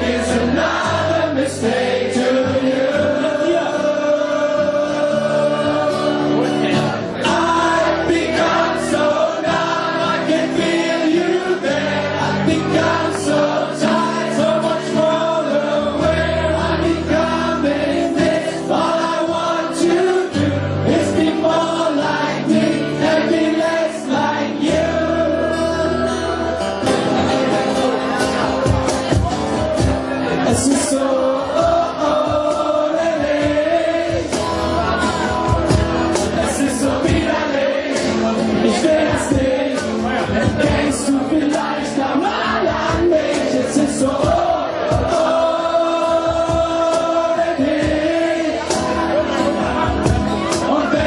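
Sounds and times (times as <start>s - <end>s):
crowd singing along: 0.0s - 51.0s
live rock band playing: 0.0s - 51.0s.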